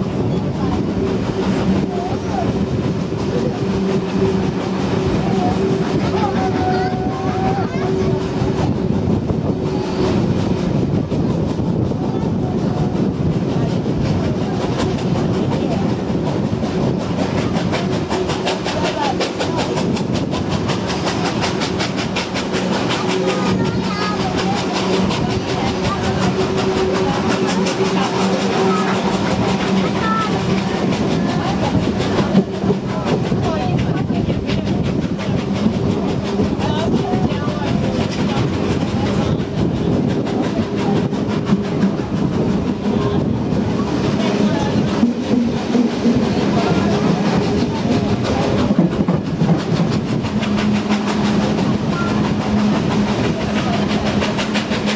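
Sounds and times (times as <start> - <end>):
faint voices: 0.0 - 54.9
steam train rhythmic beat: 0.0 - 54.9
wheels clicking over rails: 7.6 - 54.9.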